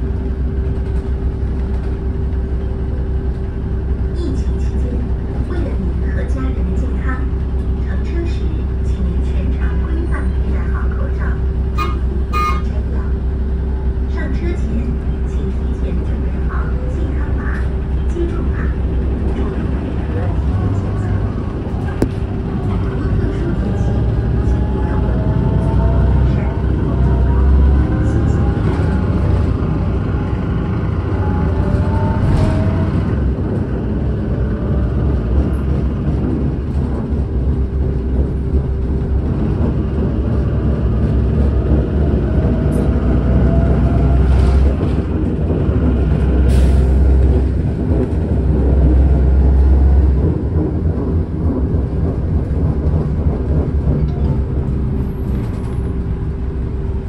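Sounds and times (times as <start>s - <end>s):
bus rumble: 0.0s - 57.0s.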